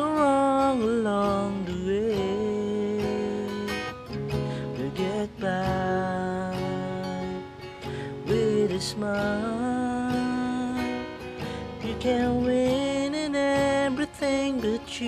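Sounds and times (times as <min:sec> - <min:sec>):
acoustic guitar strummed: 0:00.0 - 0:15.0
man singing: 0:00.0 - 0:15.0.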